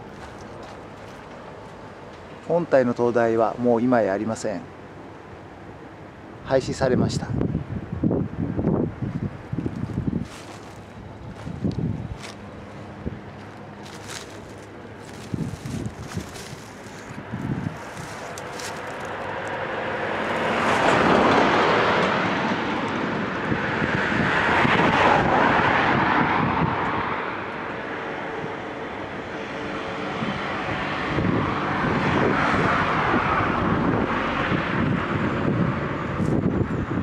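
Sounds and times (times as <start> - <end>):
vehicles passing: 0.0 - 6.4, 7.3 - 37.0.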